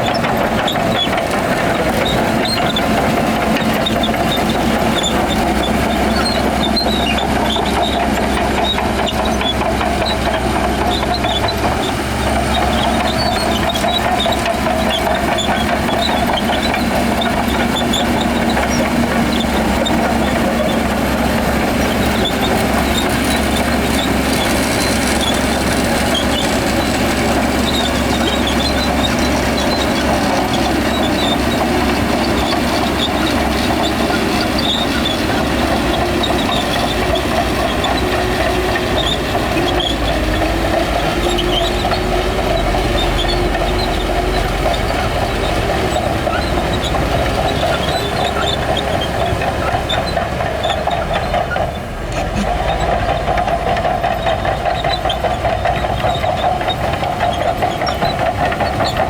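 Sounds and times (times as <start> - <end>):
bulldozer diesel engine: 0.0 - 59.0
steel tracks running: 0.0 - 59.0.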